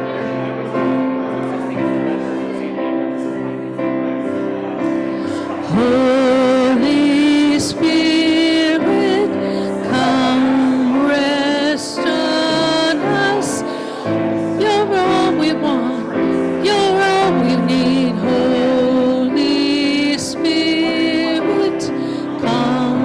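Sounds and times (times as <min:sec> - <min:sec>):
church worship music with singing: 0:00.0 - 0:23.0.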